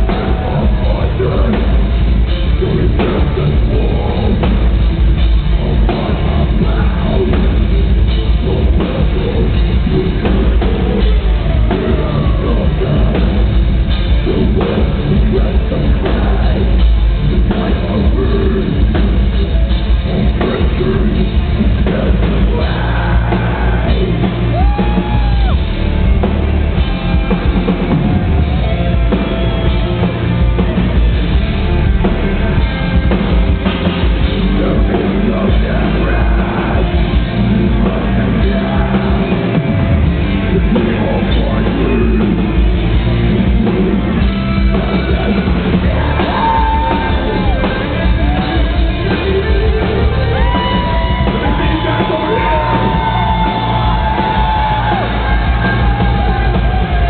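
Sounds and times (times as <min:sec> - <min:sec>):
vocals: 0:00.0 - 0:26.0, 0:26.9 - 0:57.0
distorted electric guitars: 0:00.0 - 0:57.0
pounding drum kit: 0:00.0 - 0:57.0.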